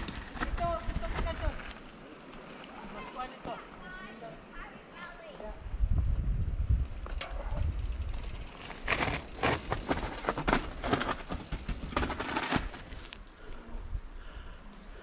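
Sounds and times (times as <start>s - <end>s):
bike rattling: 0.0s - 3.5s, 5.8s - 14.4s
bike tyres crunching over gravel: 0.0s - 4.1s, 6.9s - 15.0s.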